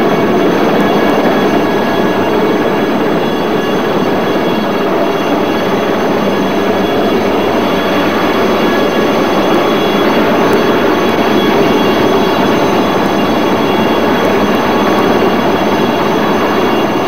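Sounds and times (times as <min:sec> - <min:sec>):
outboard motor running: 0:00.3 - 0:17.0.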